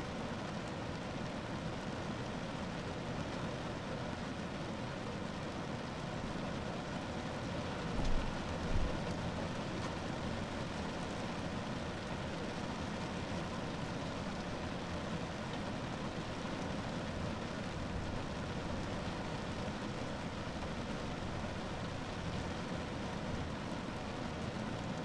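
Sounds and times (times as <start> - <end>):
rain drumming on a car roof: 0.0 - 25.0.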